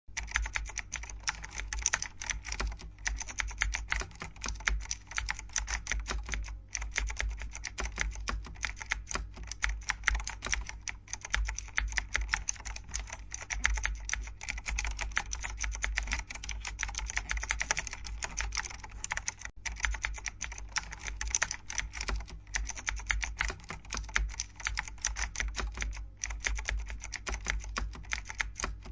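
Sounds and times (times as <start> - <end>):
mechanical keyboard typing: 0.1 - 28.9.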